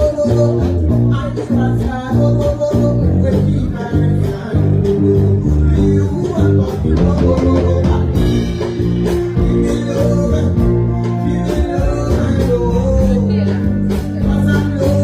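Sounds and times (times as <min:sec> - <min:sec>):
live band playing afrobeats: 0:00.0 - 0:15.0
person singing: 0:00.0 - 0:15.0.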